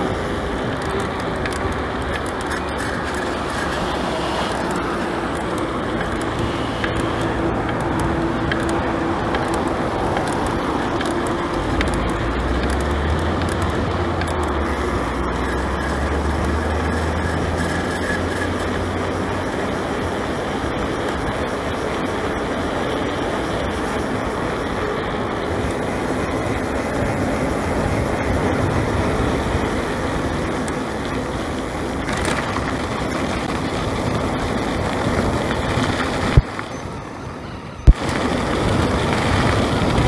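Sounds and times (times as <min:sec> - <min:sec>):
mountain bike tyre noise: 0:00.0 - 0:40.0.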